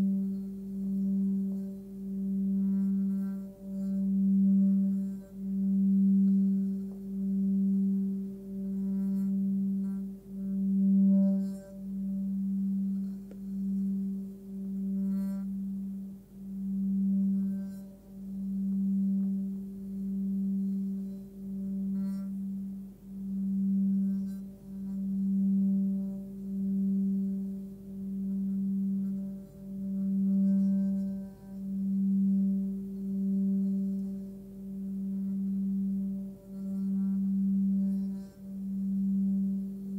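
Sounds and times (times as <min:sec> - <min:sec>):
singing bowl tone: 0:00.0 - 0:39.9.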